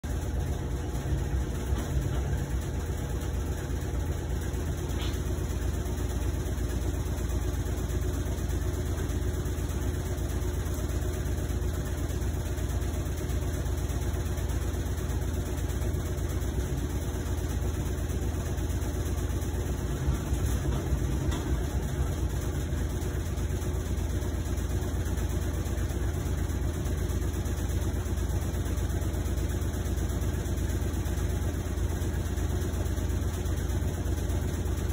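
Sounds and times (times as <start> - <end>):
washing machine running: 0.0 - 34.9.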